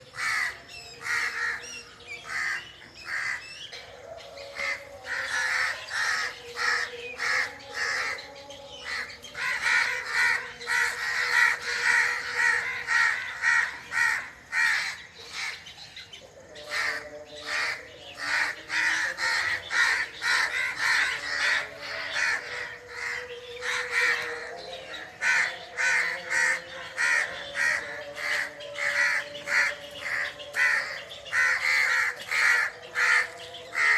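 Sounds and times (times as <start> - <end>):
flock of birds calling: 0.0 - 33.9.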